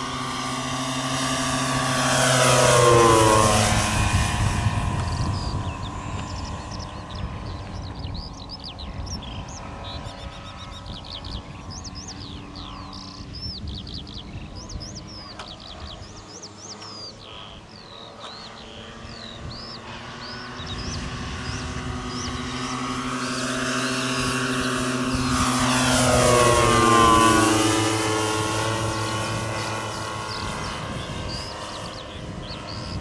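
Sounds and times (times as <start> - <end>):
low wind rumble: 0.0 - 33.0
model plane propeller drone: 0.0 - 33.0
small birds twittering: 0.0 - 33.0.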